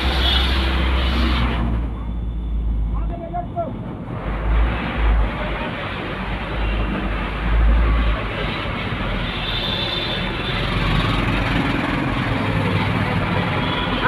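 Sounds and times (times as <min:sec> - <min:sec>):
traffic on wet road: 0:00.0 - 0:14.0.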